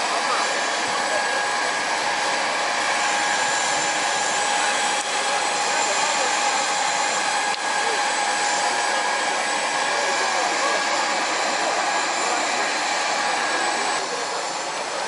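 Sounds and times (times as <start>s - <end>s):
constant high whine: 0.0s - 15.0s
turbine engine running: 0.0s - 15.0s.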